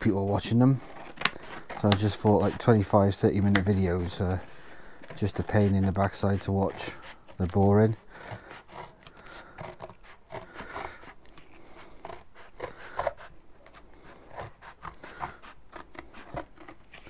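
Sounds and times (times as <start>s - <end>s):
cardboard rustling: 0.0s - 17.0s
scissors cutting cardboard: 0.0s - 17.0s.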